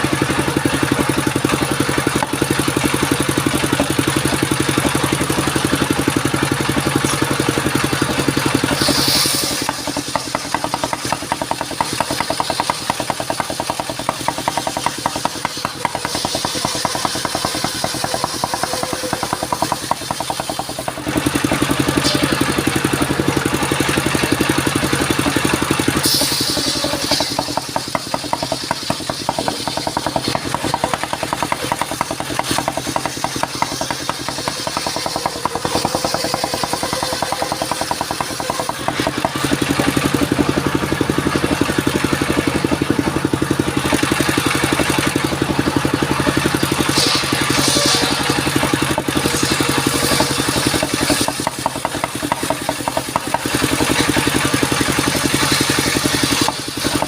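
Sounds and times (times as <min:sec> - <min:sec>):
saw rig engine running: 0:00.0 - 0:57.0.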